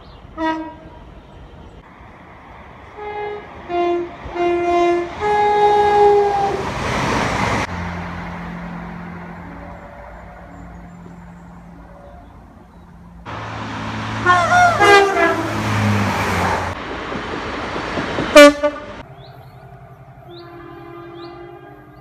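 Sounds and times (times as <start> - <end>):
low train hum: 0.0 - 22.0
passing train noise: 0.0 - 22.0
train horn: 0.4 - 1.1, 2.9 - 16.8, 18.3 - 22.0.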